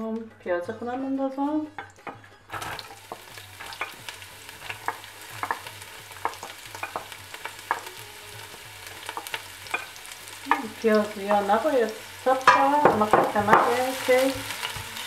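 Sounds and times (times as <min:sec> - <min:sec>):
onion sizzling in hot oil: 0:02.5 - 0:15.0.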